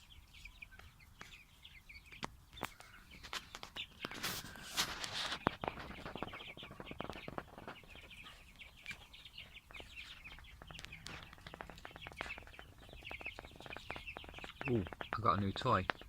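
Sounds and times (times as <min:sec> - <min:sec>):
chickens chirping faintly: 0:00.0 - 0:16.0.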